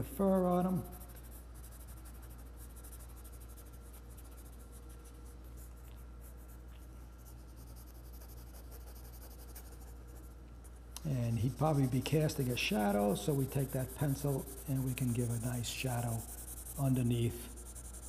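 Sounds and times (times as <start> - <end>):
faint low hum: 0.0 - 18.0
pencil scratching on paper: 0.0 - 18.0.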